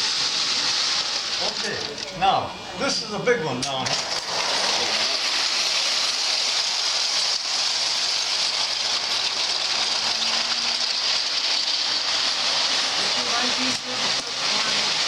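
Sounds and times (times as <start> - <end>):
model train running on track: 0.0 - 2.0, 4.0 - 15.0.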